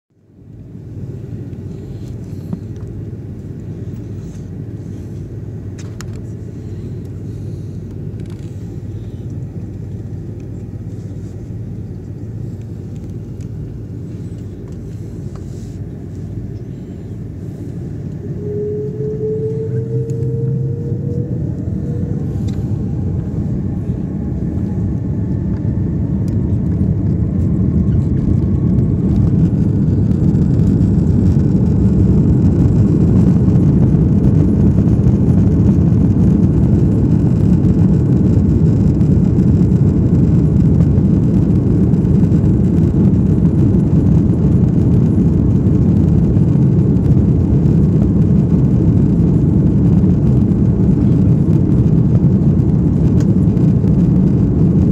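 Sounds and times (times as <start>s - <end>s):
jet engines whining and rumbling: 0.1s - 54.9s.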